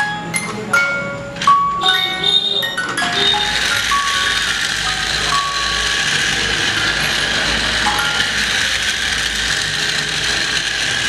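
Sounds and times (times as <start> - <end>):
toy train whirring clatter: 0.0 - 11.0.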